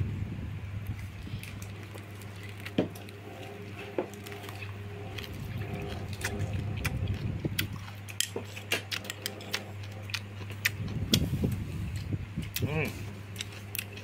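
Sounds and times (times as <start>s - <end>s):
steady low hum: 0.0s - 14.0s
close-up chewing: 0.8s - 14.0s.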